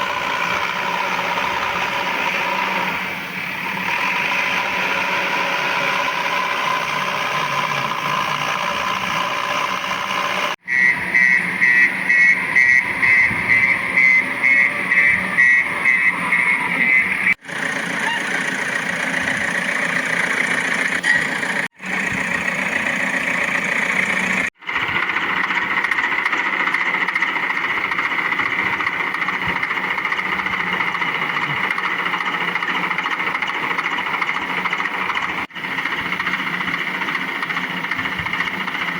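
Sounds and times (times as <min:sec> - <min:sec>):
toy vehicle engine hum: 0:00.0 - 0:38.9.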